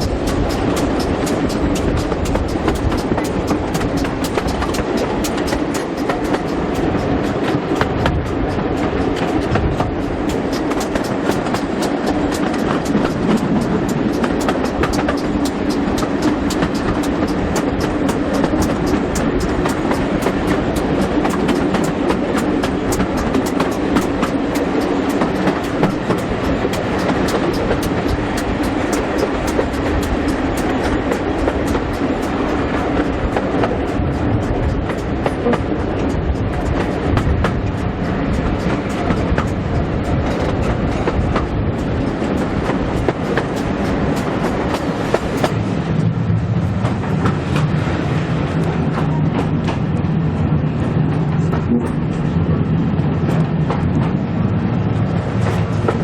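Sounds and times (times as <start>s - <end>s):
sharp clicks: 0.0s - 45.6s
train wheels rumbling on rail: 0.0s - 56.0s.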